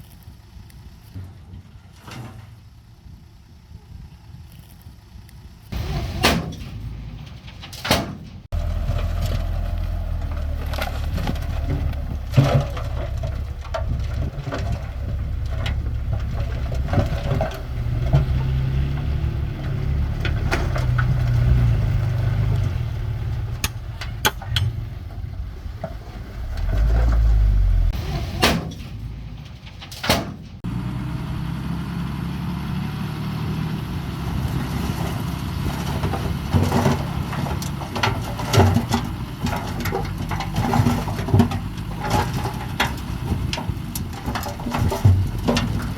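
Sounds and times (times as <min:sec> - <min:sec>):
bulldozer diesel engine rumbling: 0:00.0 - 0:45.9.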